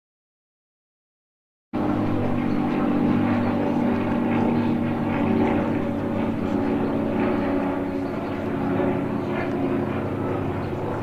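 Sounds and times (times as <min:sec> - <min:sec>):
propeller plane engine droning overhead: 0:01.8 - 0:11.0.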